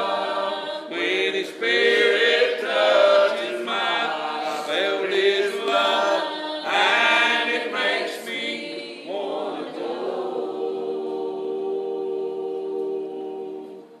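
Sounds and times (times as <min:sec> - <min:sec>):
group singing in harmony: 0:00.0 - 0:14.0.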